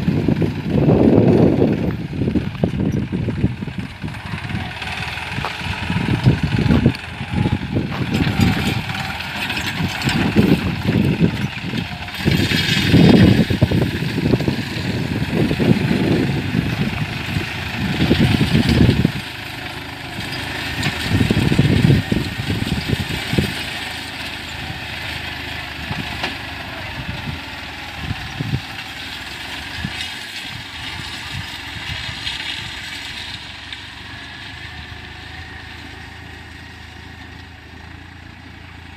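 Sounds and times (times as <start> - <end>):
tractor engine pulling plough: 0.0 - 38.9.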